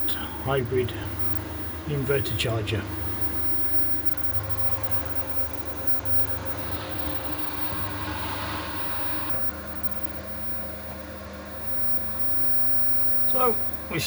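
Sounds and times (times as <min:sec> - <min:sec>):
lower steady hum: 0:00.0 - 0:14.0
water pump humming: 0:00.0 - 0:14.0.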